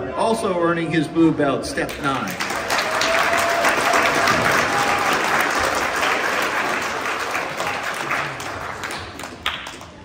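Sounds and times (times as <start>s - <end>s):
crowd clapping: 1.8s - 10.0s.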